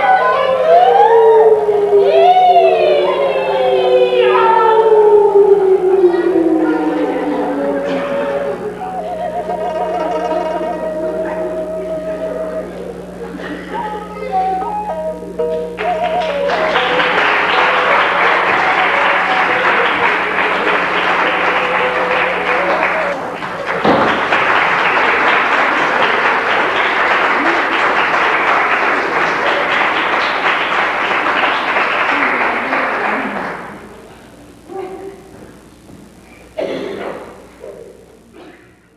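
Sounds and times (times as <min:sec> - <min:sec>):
audience applauding: 0:00.0 - 0:34.2
faint recorded music: 0:00.0 - 0:38.9.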